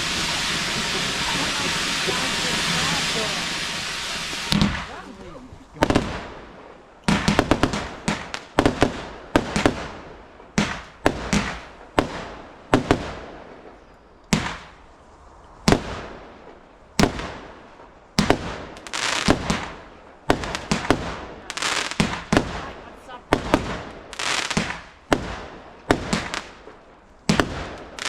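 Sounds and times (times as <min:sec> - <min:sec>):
fireworks bangs: 0:00.0 - 0:15.0, 0:15.6 - 0:28.0
fireworks crackling: 0:00.0 - 0:28.0.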